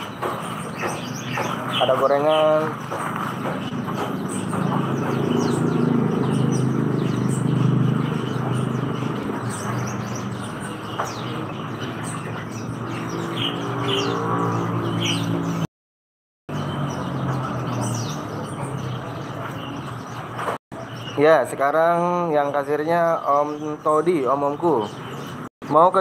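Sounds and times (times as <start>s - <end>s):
songbirds chirping and twittering: 0.0s - 15.7s, 16.5s - 26.0s.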